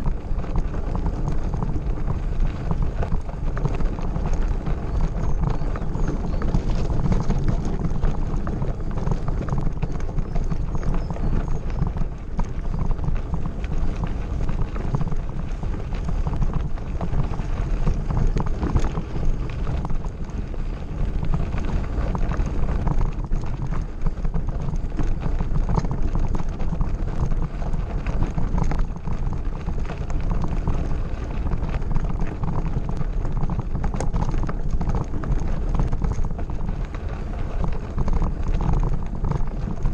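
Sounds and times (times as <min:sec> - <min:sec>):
bike rattling: 0:00.0 - 0:39.9
low rumble: 0:00.0 - 0:39.9
tyres crunching over gravel: 0:00.0 - 0:39.9.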